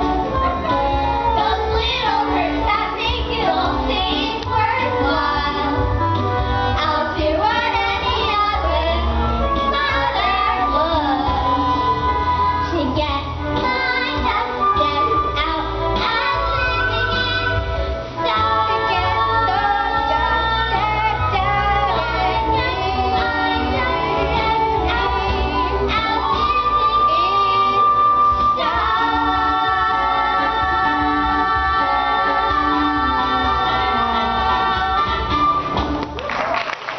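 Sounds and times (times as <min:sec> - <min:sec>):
young female voices singing: 0:00.0 - 0:06.0, 0:06.7 - 0:35.6
instrumental accompaniment: 0:00.0 - 0:36.6.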